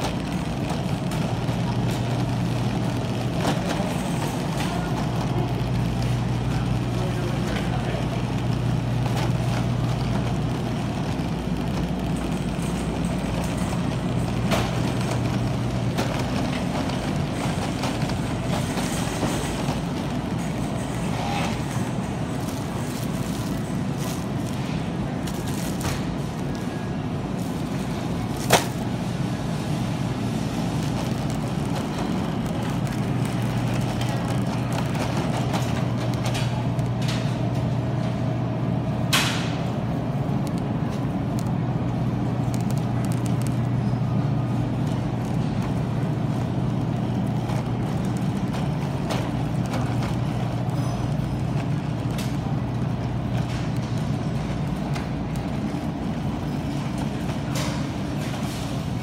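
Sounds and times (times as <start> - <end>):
refrigerated display cases humming: 0.0 - 59.0.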